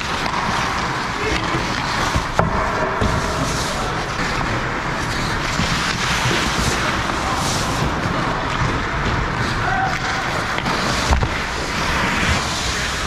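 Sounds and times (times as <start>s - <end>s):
skates scraping ice: 0.0s - 13.0s.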